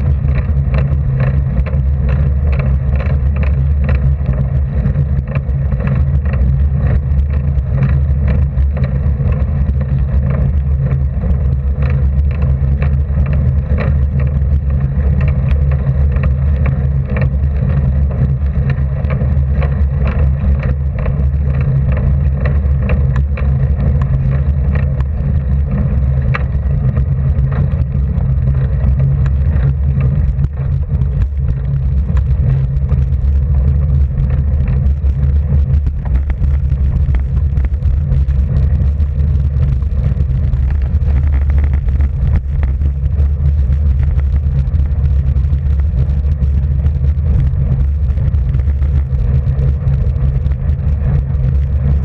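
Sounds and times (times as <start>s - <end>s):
bicycle clicks and rattles: 0.0s - 52.0s
bicycle rumbling on rough tarmac: 0.0s - 52.0s.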